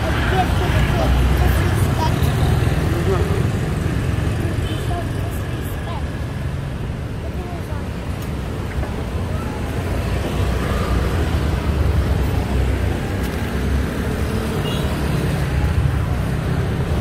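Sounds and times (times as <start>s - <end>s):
passing vehicles rumble: 0.0s - 17.0s.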